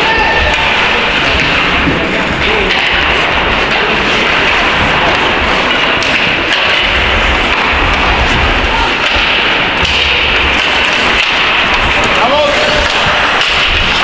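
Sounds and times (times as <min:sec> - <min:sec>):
ice hockey game noise: 0:00.0 - 0:14.0
low rumble: 0:00.0 - 0:14.0
sharp clicks and knocks: 0:00.0 - 0:14.0.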